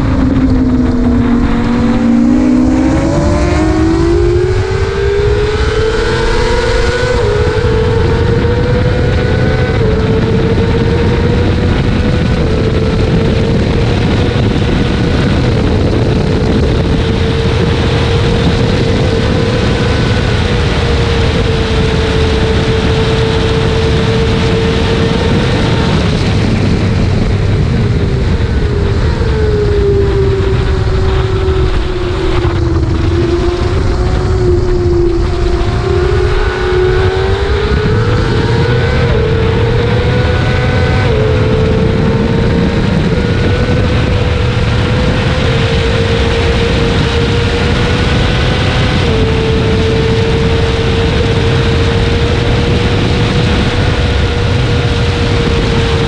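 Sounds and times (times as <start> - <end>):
motorcycle engine revving: 0.0 - 56.0
wind rush: 0.0 - 56.0.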